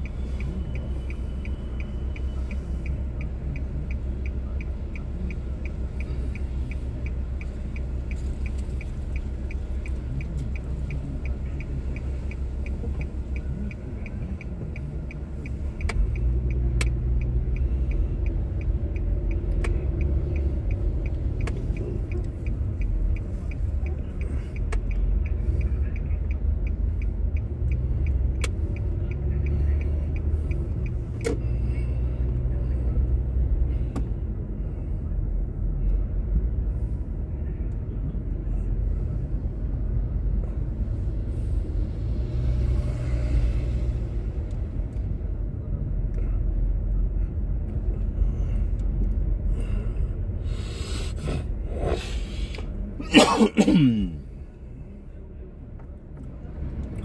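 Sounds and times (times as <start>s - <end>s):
car engine rumbling: 0.0s - 57.0s
road noise: 0.0s - 57.0s.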